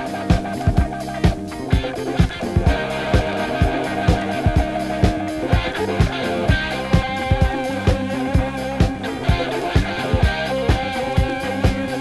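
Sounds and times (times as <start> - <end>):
disco-rock music: 0.0 - 12.0.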